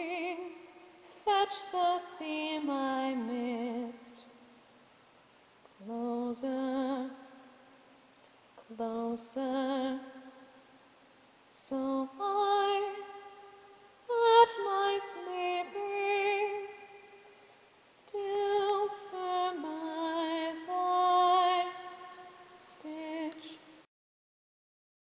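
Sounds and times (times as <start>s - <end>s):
woman singing slow melody: 0.0s - 4.7s, 5.7s - 7.8s, 8.6s - 10.8s, 11.5s - 23.9s.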